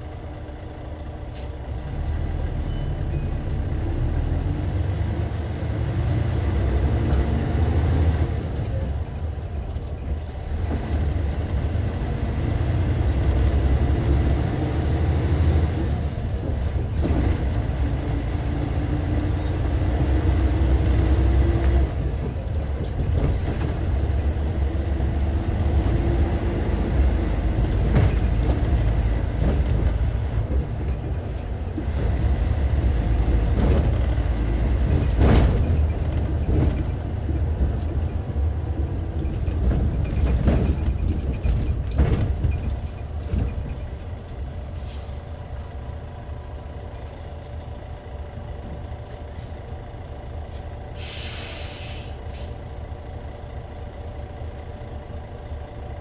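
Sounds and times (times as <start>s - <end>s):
coach diesel engine accelerating: 0.0s - 56.0s.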